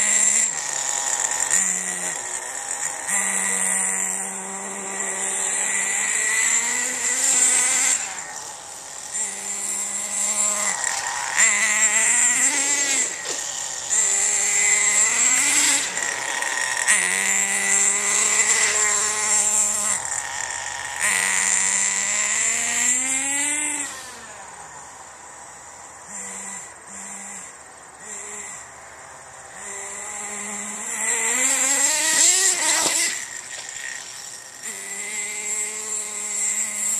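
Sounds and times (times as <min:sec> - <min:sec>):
toy truck motor revving: 0:00.0 - 0:36.9.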